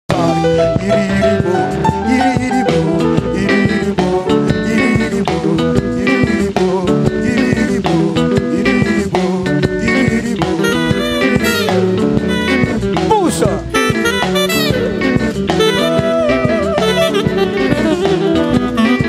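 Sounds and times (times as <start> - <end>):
drum kit beat: 0.1 - 19.0
electric guitar: 0.1 - 19.0.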